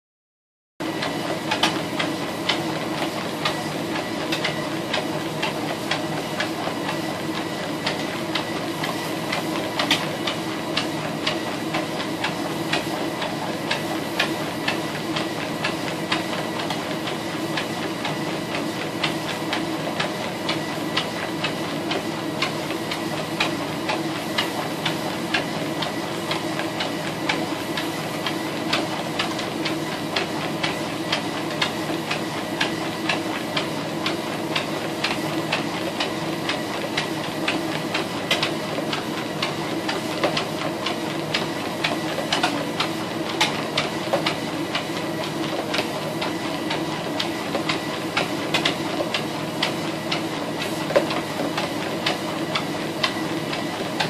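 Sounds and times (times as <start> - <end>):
treadmill hum and whine: 0.8 - 54.0.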